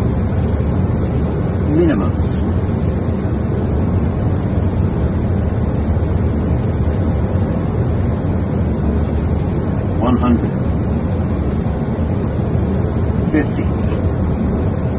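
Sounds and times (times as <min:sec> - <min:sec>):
cockpit airflow and engine rush: 0:00.0 - 0:14.9.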